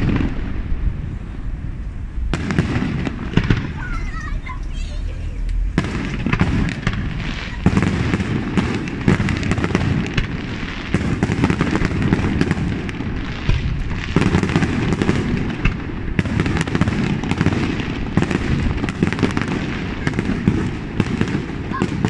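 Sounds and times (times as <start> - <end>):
firework booms: 0.0 - 22.0
firework crackling: 0.0 - 22.0.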